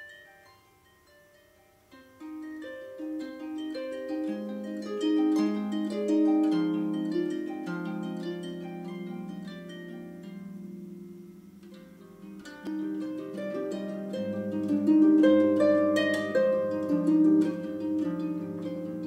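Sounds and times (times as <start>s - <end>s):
solo harp improvising: 0.0s - 19.0s.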